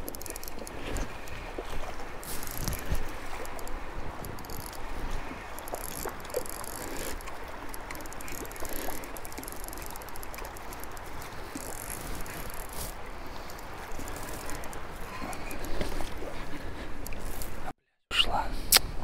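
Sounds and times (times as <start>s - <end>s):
river water rushing: 0.0s - 16.4s.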